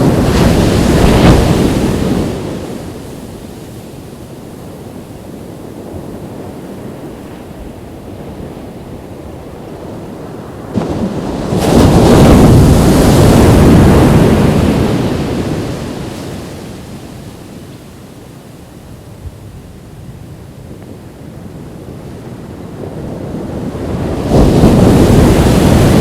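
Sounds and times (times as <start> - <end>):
ocean wave crashing on beach: 0.0 - 17.9, 22.0 - 26.0
steady hiss of the sea: 0.0 - 26.0.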